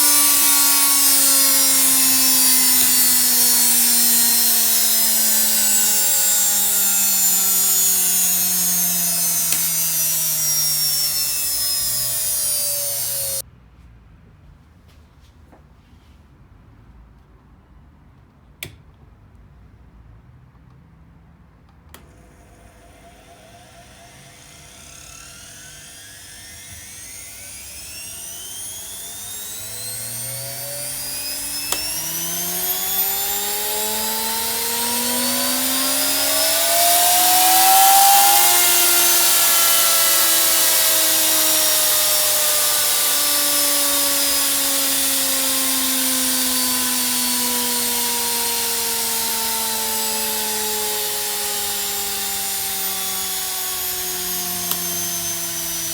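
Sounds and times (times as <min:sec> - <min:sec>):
washing machine motor whine: 0:00.0 - 0:13.4, 0:22.1 - 0:55.9.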